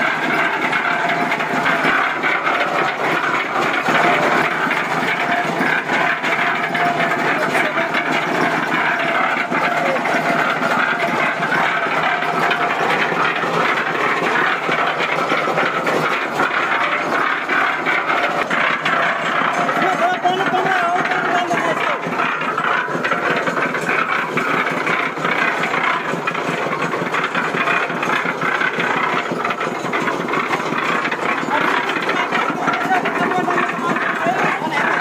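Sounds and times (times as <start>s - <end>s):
concrete mixer engine running: 0.0s - 35.0s
mixer drum turning with water: 0.0s - 35.0s.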